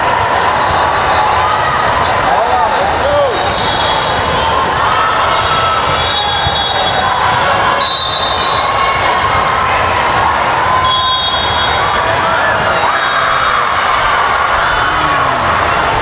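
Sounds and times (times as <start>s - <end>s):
spectator chatter: 0.0s - 16.0s.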